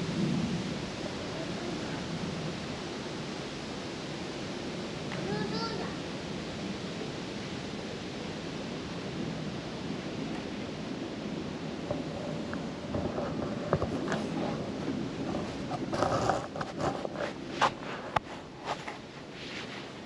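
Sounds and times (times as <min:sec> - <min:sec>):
outdoor ambience hiss and rumble: 0:00.0 - 0:20.0.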